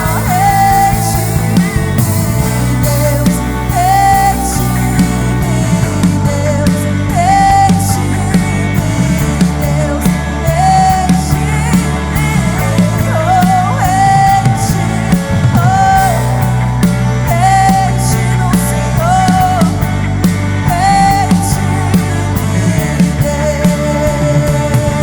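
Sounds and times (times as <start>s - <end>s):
live band playing worship song: 0.0s - 25.0s.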